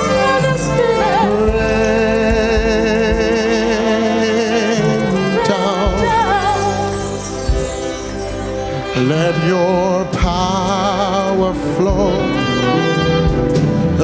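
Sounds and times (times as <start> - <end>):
voices singing with vibrato: 0.0 - 13.1
keyboard and band backing: 0.0 - 14.0.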